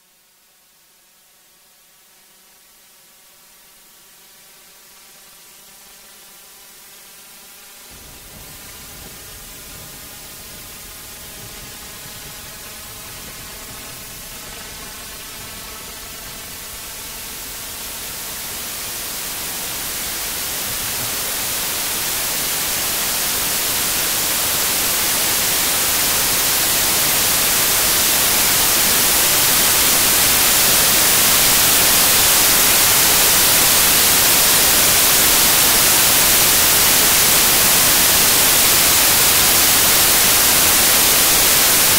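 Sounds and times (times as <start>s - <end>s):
electronic static hiss: 0.0s - 41.9s.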